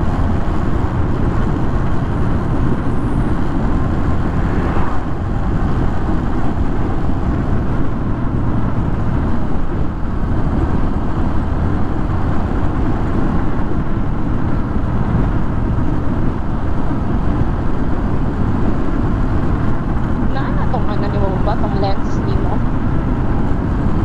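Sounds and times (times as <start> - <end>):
road noise: 0.0 - 24.0
wind rush on microphone: 0.0 - 24.0.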